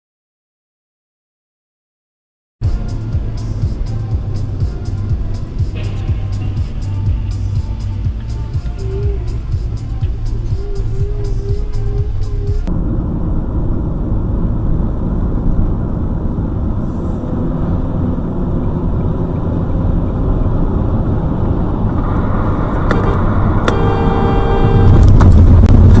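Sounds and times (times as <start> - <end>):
heavy truck rumbling: 2.6 - 26.0
whining tone: 2.6 - 26.0.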